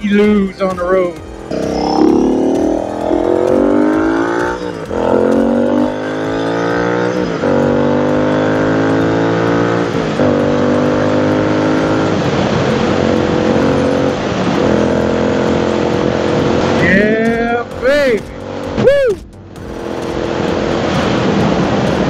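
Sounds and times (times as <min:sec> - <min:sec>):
motorcycle engine accelerating: 0:01.2 - 0:22.0.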